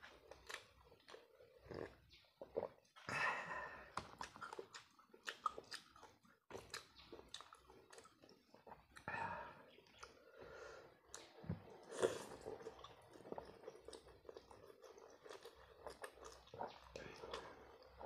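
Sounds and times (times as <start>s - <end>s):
person chewing noodles: 0.0s - 18.0s.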